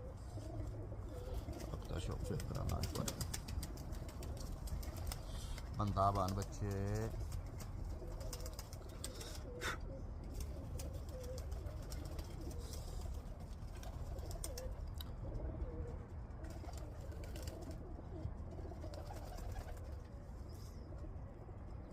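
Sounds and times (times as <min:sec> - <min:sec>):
pigeons cooing: 0:00.0 - 0:21.9.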